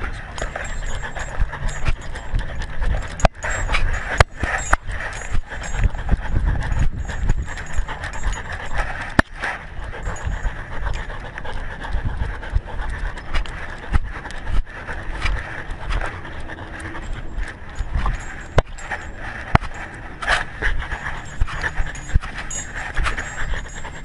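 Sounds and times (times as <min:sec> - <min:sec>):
collar rubbing against microphone: 0:00.0 - 0:24.0
dog panting: 0:00.0 - 0:24.0.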